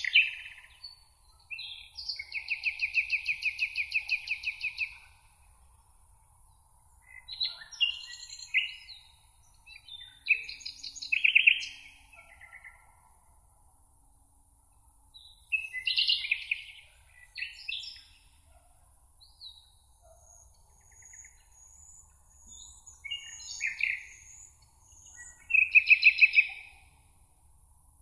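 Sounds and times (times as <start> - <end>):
songbirds singing: 0.0 - 5.3, 6.3 - 13.1, 15.2 - 27.2.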